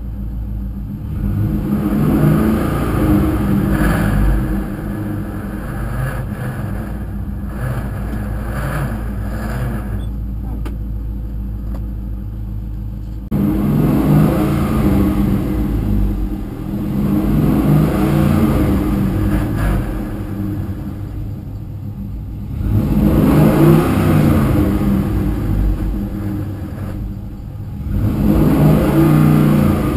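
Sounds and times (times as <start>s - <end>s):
car engine and drivetrain running: 0.0s - 29.9s.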